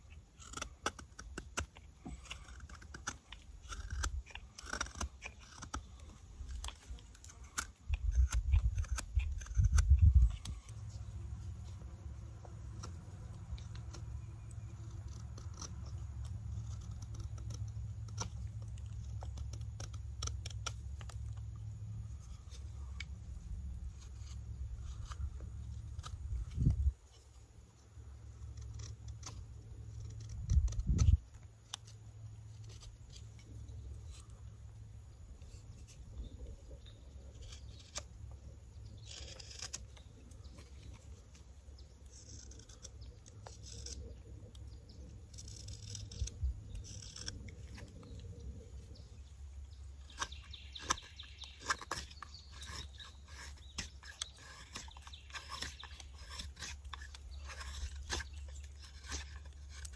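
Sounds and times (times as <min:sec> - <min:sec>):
knife scraping wood: 0:00.0 - 0:59.9
low steady rumble: 0:00.0 - 0:59.9.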